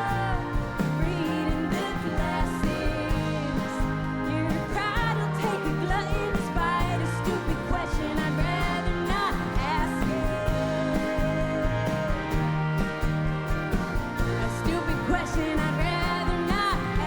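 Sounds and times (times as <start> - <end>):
bass: 0.0 - 17.0
live band playing rock song: 0.0 - 17.0
steady drum beat: 0.0 - 17.0
sung vocals: 0.0 - 17.0.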